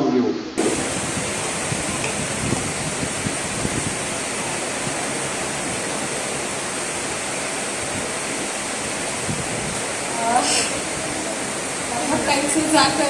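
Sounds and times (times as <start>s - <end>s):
steady rushing noise: 0.4s - 13.0s.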